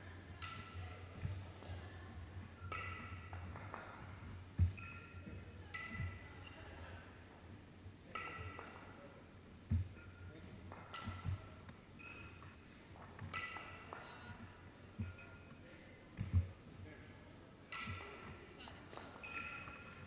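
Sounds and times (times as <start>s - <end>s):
gym hall din: 0.0s - 20.0s.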